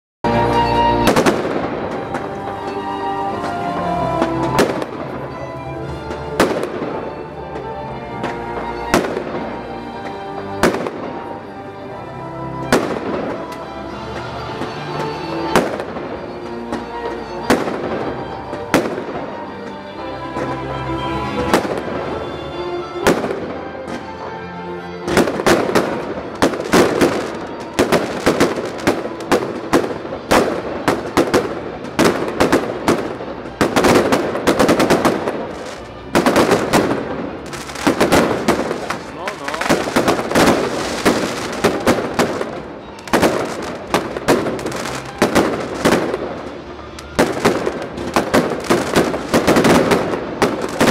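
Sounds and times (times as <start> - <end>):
music: 0.2 - 50.9
fireworks bangs and crackles: 0.3 - 11.6, 12.5 - 22.4, 23.0 - 24.3, 25.1 - 50.9.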